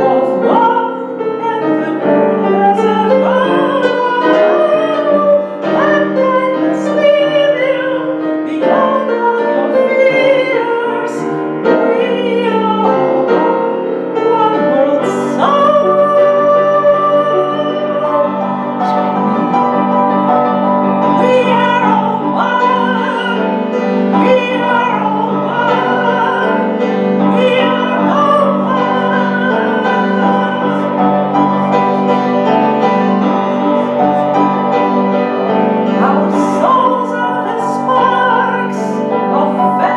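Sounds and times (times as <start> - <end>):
piano accompaniment: 0.0 - 39.9
woman singing: 0.0 - 39.9.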